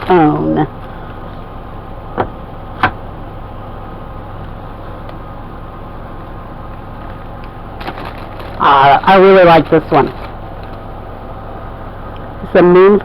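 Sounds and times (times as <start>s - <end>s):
low machinery hum and hiss: 0.0s - 13.0s.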